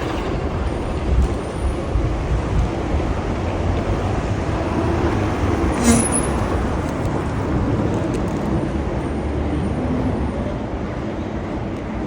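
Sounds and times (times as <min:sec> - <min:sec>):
road traffic rumbling: 0:00.0 - 0:12.0.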